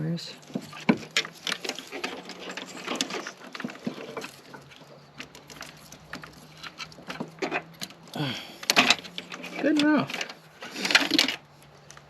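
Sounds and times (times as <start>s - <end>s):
hose handling clicks and rustles: 0.4s - 12.0s.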